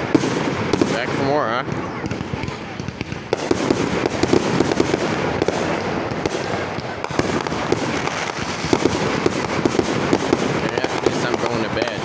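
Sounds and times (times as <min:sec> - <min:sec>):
fireworks barrage popping and crackling: 0:00.0 - 0:12.0
sharp loud firework reports: 0:00.0 - 0:12.0.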